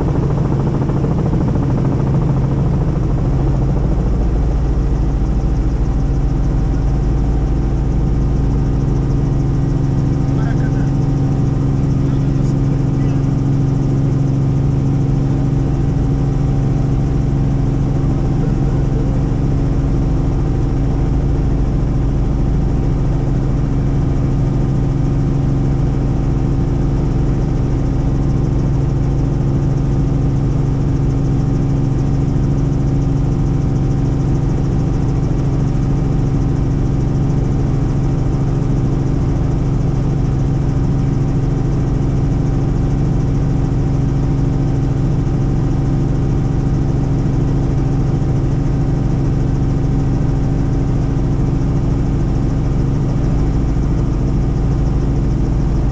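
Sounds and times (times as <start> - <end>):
helicopter engine and rotors droning: 0.0 - 55.9.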